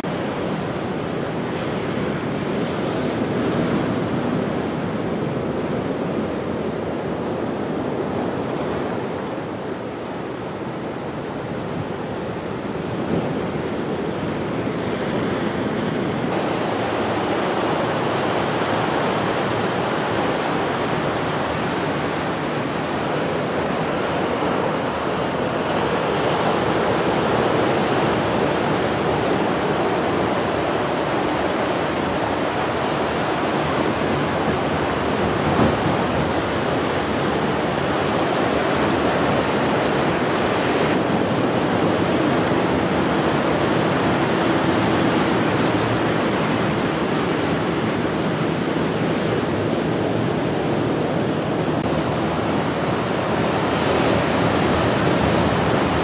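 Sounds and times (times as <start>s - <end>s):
waves breaking: 0.0s - 56.0s.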